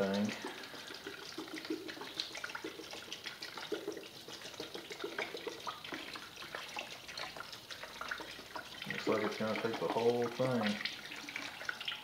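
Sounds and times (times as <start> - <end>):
liquid pouring into plastic container: 0.0 - 12.0.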